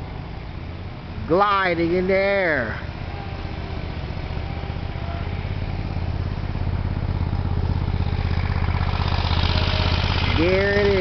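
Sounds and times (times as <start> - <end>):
engine running with fast throb: 0.0 - 11.0.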